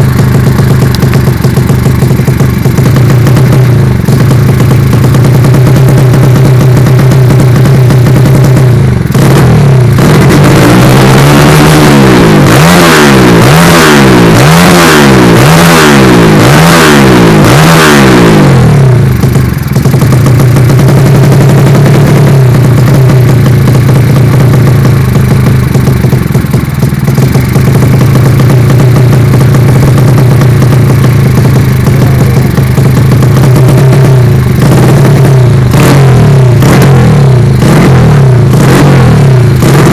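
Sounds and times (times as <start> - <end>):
motorcycle engine idling: 0.0 - 39.9
motorcycle throttle blips: 0.0 - 39.9.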